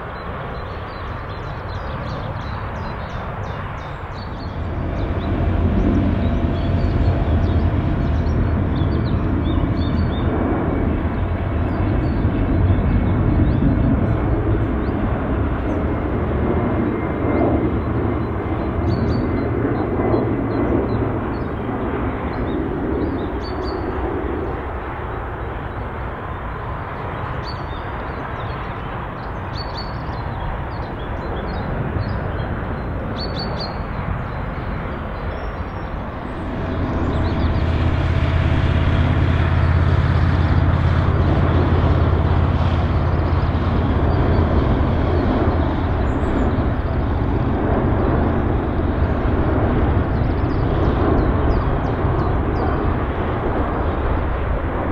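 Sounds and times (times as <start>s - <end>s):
jet engines rumbling: 0.0s - 54.9s.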